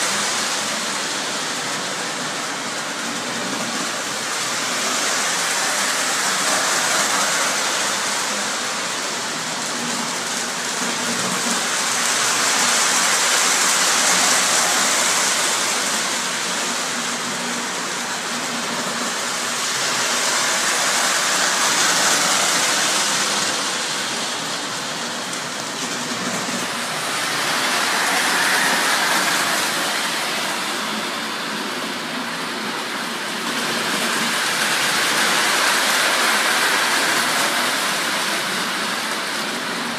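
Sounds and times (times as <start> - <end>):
model trains rumbling on rails: 0.0 - 39.9.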